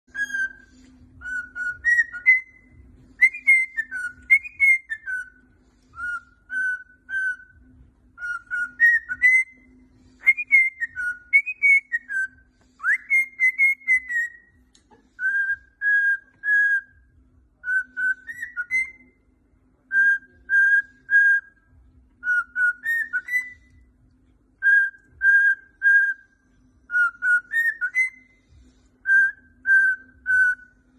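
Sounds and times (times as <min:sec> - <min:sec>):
cockatiel whistling: 0:00.1 - 0:14.6, 0:15.2 - 0:19.2, 0:19.9 - 0:23.9, 0:24.6 - 0:28.4, 0:29.0 - 0:30.8.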